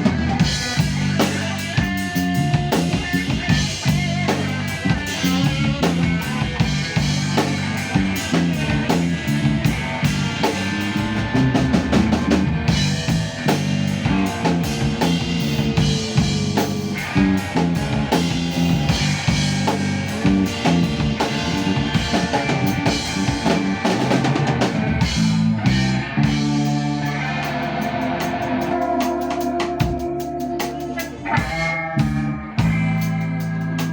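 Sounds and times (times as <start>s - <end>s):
drum kit playing: 0.0s - 33.9s
guitar: 0.0s - 33.9s
walking bass line: 0.0s - 33.9s.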